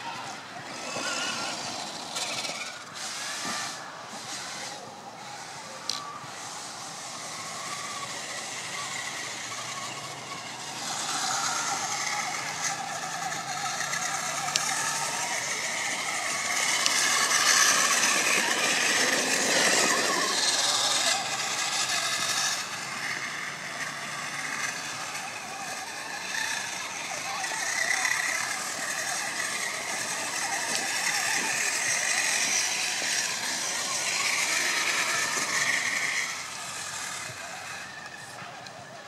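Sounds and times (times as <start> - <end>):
toy truck motors whining: 0.0 - 39.0.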